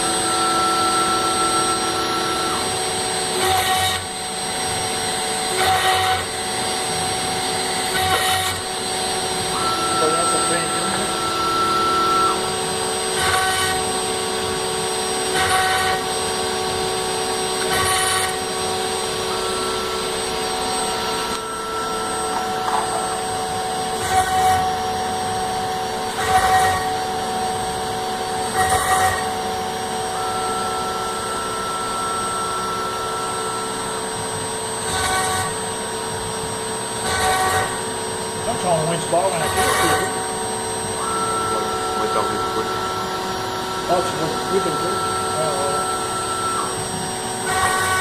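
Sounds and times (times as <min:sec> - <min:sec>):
cnc router spindle whine: 0:00.0 - 0:48.0
router cutting acrylic: 0:00.0 - 0:48.0.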